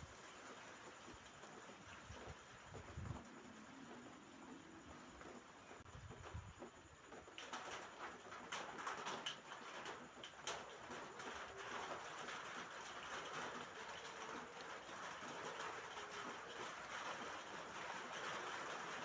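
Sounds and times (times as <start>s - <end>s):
rain pattering on a roof: 0.0s - 19.0s.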